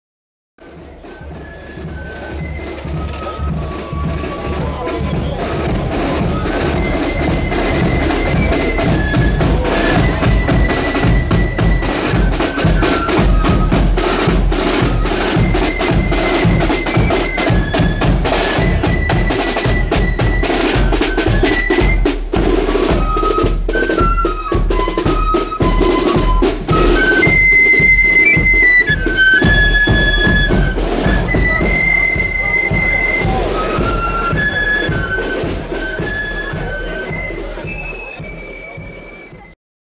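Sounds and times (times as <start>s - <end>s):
snare drums rattling: 0.6s - 39.2s
flutes playing melody: 0.6s - 39.6s.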